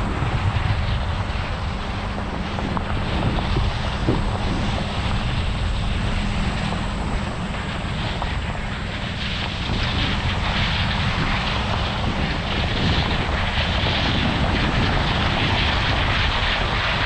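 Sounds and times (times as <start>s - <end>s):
mechanical noise: 0.0s - 13.9s
diesel machinery engine drone: 0.0s - 17.0s.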